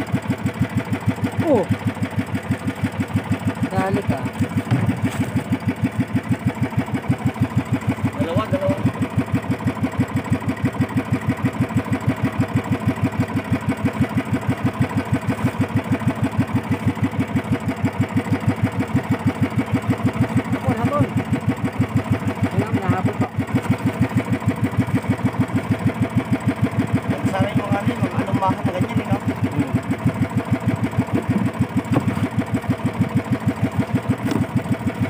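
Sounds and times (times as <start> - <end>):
small boat engine running: 0.0 - 35.0.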